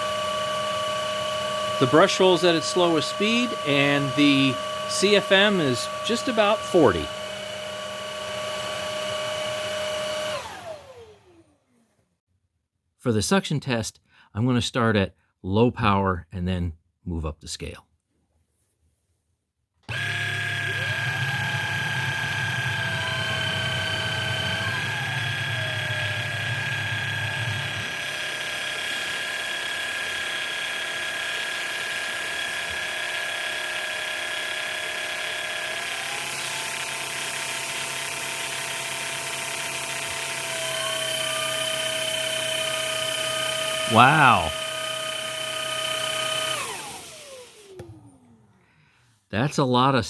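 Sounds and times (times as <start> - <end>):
vacuum motor high whine: 0.0 - 11.7, 19.9 - 48.5.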